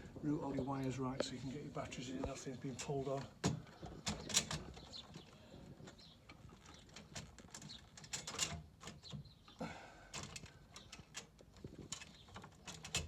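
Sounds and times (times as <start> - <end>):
light clicks and knocks of handling: 0.2 - 13.0.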